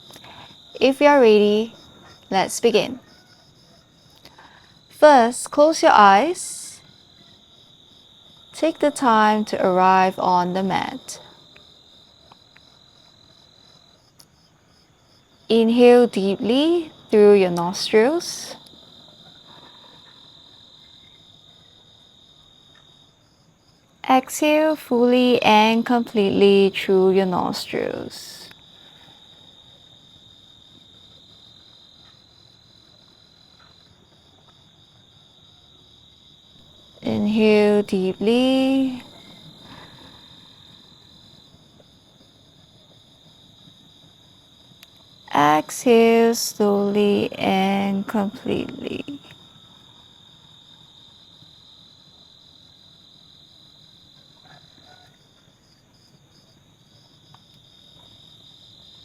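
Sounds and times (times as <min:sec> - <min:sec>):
continuous insect trill: 0:00.0 - 0:59.0.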